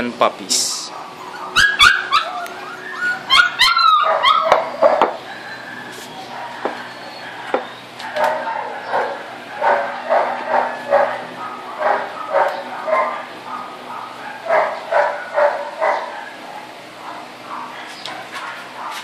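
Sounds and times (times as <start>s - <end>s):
puppies yipping and whimpering: 0.8s - 19.0s.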